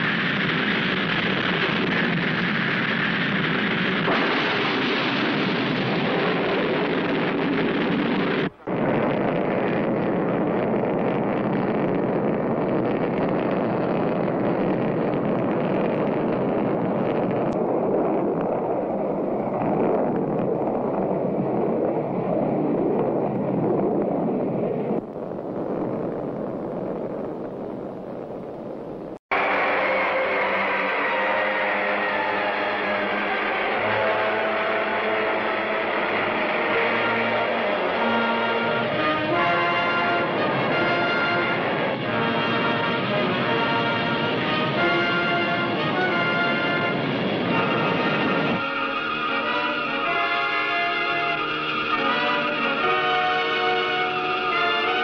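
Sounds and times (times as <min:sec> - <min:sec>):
rocket engine roar: 0:00.0 - 0:55.0.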